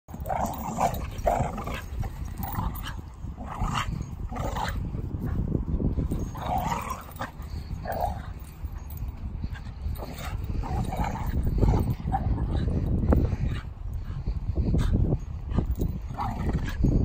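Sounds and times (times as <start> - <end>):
dogs growling and barking: 0.1 - 5.4, 6.0 - 14.4, 15.5 - 17.0.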